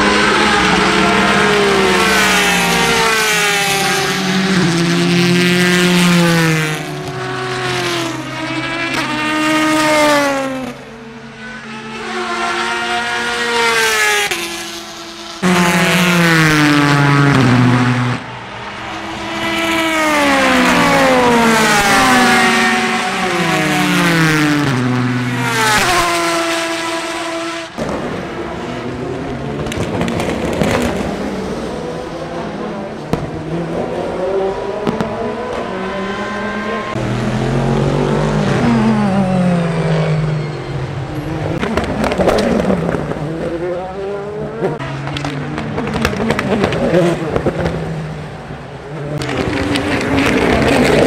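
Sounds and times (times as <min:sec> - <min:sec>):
race cars passing at speed: 0:00.0 - 0:51.0.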